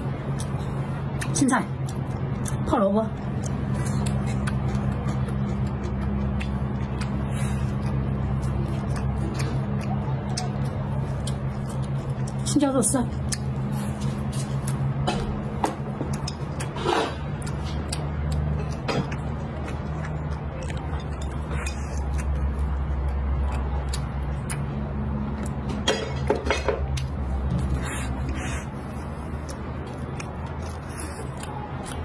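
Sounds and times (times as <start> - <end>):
person chewing: 0.0 - 32.0
steady low hum: 0.0 - 32.0.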